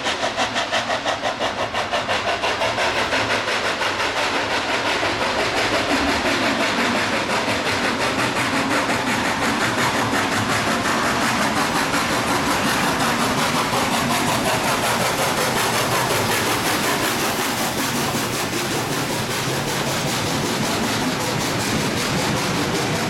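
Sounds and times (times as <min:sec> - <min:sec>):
steam hissing: 0:00.0 - 0:23.0
train carriages rolling on rails: 0:00.0 - 0:23.0.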